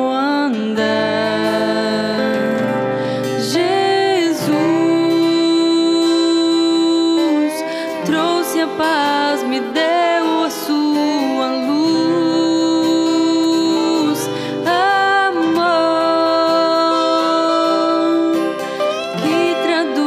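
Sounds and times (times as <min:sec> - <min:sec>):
guitar accompaniment: 0:00.0 - 0:20.0
person singing: 0:00.0 - 0:20.0.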